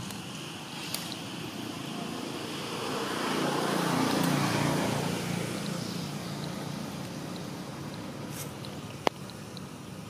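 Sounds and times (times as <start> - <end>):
vehicle engine passing by: 0.0 - 9.0.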